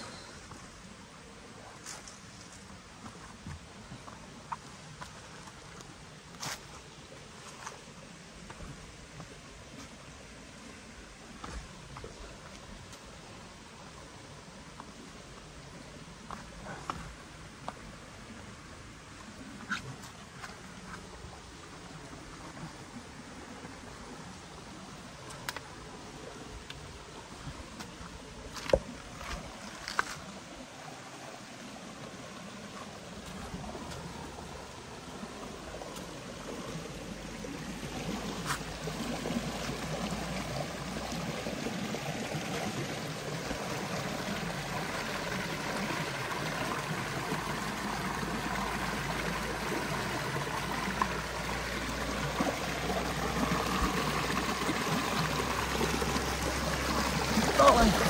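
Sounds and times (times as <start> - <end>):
creek water trickling over rocks: 0.0 - 58.0.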